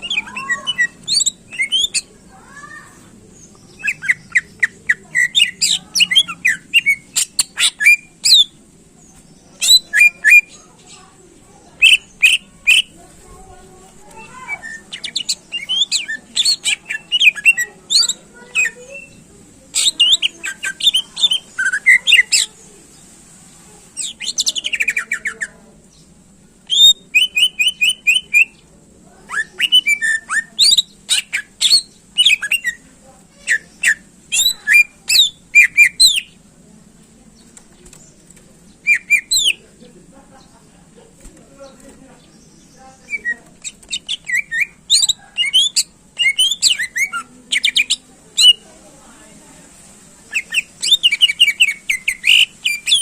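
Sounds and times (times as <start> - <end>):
bird singing chirps and trills: 0.0 - 36.5, 37.2 - 39.8, 41.6 - 49.6, 50.2 - 53.0.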